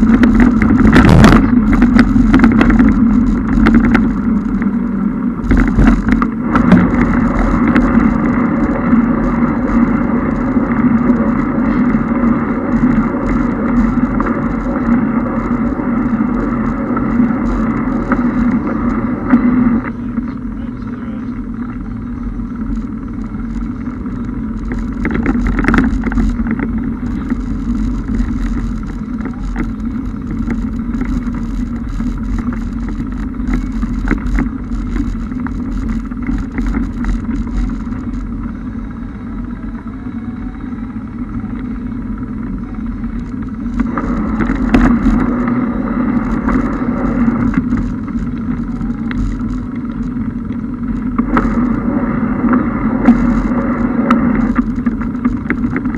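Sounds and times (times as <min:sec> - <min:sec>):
car engine and road drone: 0:00.0 - 0:55.9.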